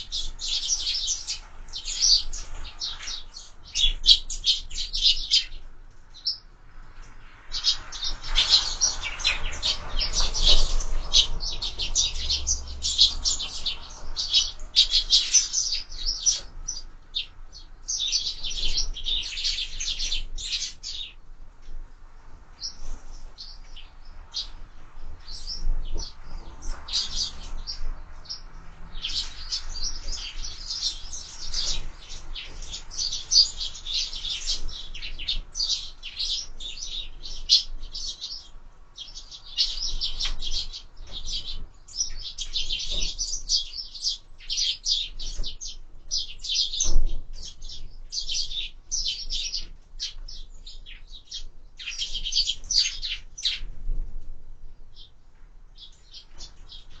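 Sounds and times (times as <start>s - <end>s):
sparrows chirping: 0.0s - 53.8s, 54.9s - 57.0s.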